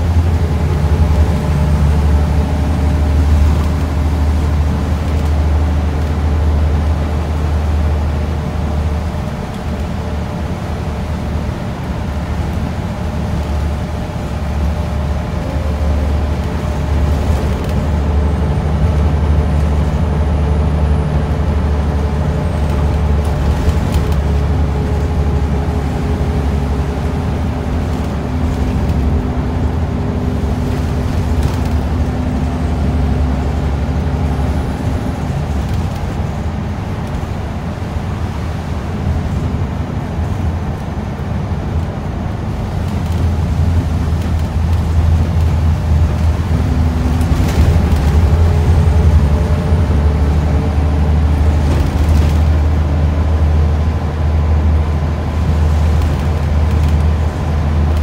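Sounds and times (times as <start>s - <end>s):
bus engine drone: 0.0s - 58.0s
road and tyre noise: 0.0s - 58.0s.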